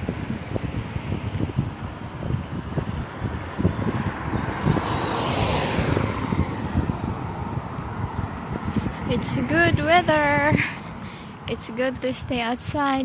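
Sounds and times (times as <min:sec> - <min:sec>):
vehicle passing by: 0:00.0 - 0:12.2
wind rumble on microphone: 0:00.0 - 0:13.0.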